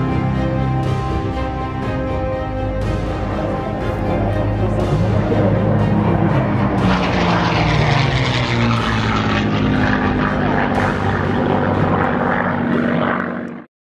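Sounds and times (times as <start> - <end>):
propeller plane engine droning: 0.0 - 13.7.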